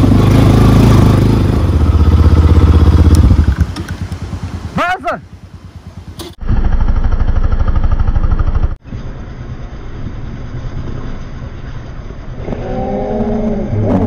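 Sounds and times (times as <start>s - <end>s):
motorcycle engine running: 0.0s - 14.0s
road noise: 0.0s - 14.0s.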